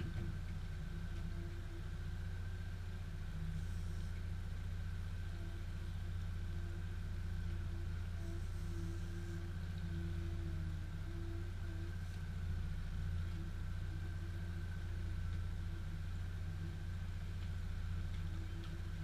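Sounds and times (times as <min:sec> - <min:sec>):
boat motor idling: 0:00.0 - 0:19.0.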